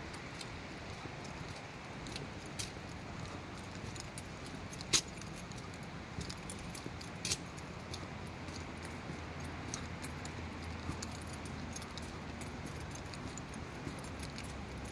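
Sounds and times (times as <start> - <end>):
sharp clicks and jingles: 0.0 - 14.9.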